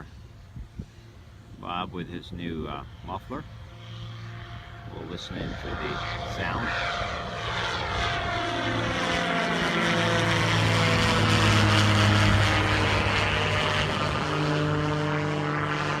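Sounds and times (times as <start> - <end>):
aircraft engine and propeller: 0.0 - 16.0.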